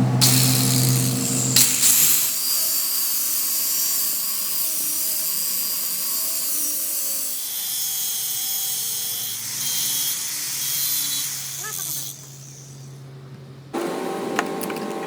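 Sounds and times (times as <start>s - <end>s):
metalworking machine whining: 0.0s - 15.0s.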